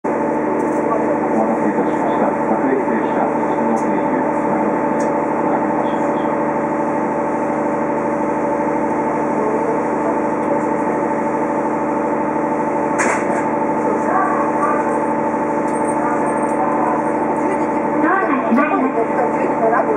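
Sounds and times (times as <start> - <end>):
electric train interior hum: 0.1 - 19.9.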